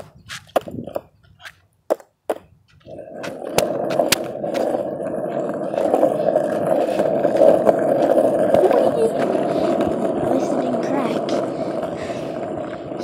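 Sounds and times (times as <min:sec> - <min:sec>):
skateboard clicks: 0:00.0 - 0:13.0
skateboard wheels rolling on pavement: 0:00.0 - 0:13.0.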